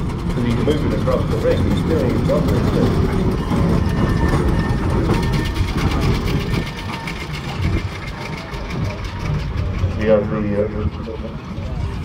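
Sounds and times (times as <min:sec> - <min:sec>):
heavy low rumble: 0:00.0 - 0:12.0
steam engine beating: 0:00.0 - 0:12.0.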